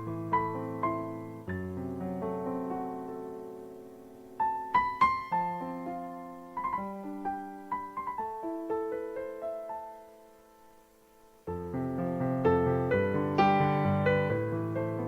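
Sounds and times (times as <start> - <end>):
slow solo piano melody: 0.0 - 15.0.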